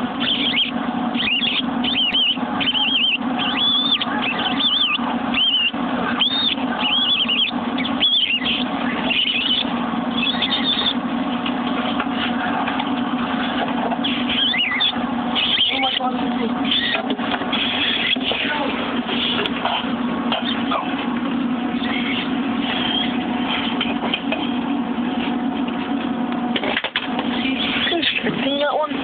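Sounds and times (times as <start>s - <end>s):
baby mice squeaking: 0.0s - 21.0s, 21.7s - 24.7s, 27.2s - 29.0s
steady low hum: 0.0s - 29.0s.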